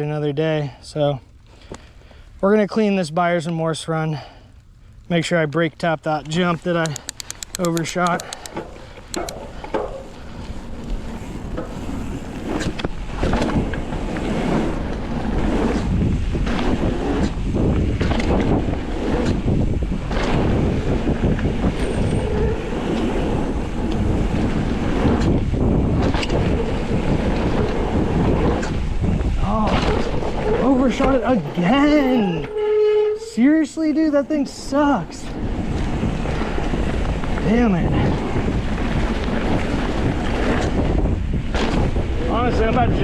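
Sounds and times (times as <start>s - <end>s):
wind rushing over microphone: 6.4s - 43.0s.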